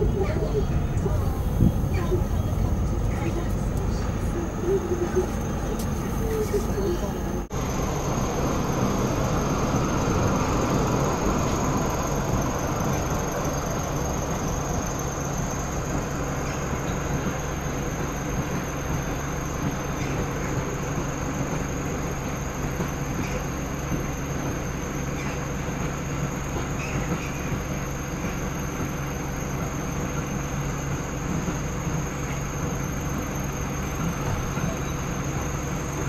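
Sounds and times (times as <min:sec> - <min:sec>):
low idling engine hum: 0:00.0 - 0:36.0
train wheels rumbling on rails: 0:00.0 - 0:36.0.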